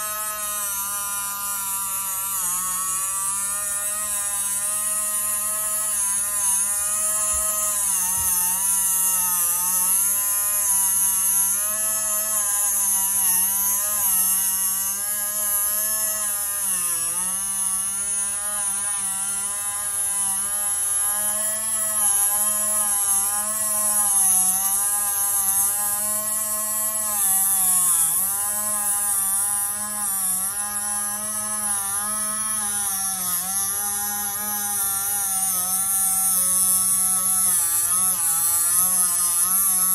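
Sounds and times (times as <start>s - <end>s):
engraving tool motor whirring: 0.0s - 39.9s.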